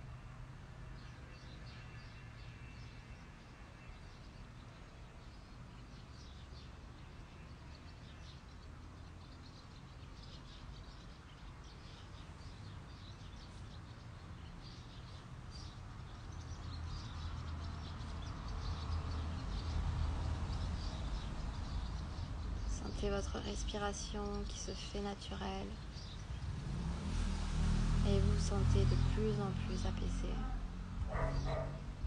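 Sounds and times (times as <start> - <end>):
small birds chirping: 1.0 - 32.0.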